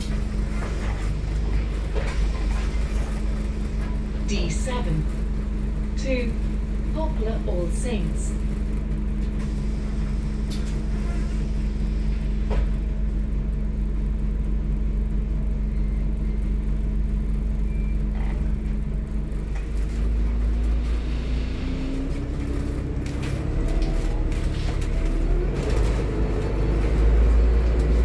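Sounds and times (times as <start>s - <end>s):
bus engine running: 0.0s - 28.0s
rising engine whine: 0.0s - 28.0s.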